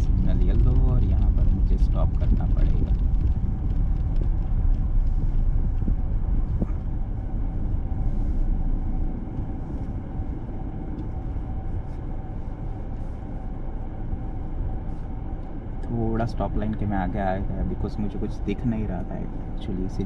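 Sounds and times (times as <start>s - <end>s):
car tyres rumbling on snow: 0.0s - 20.0s.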